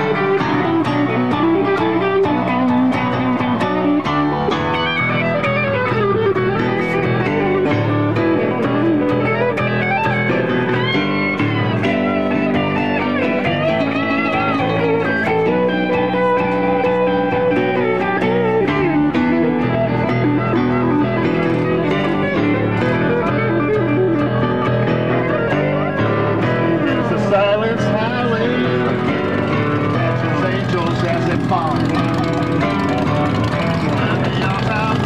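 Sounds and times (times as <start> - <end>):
electric guitar lead lines: 0.0 - 35.0
live rock band playing: 0.0 - 35.0.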